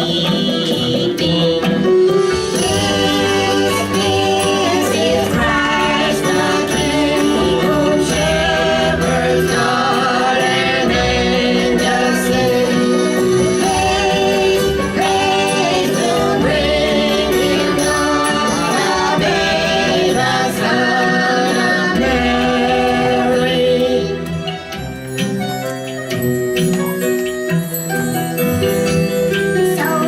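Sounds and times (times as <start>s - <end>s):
choir singing with instruments: 0.0s - 25.5s.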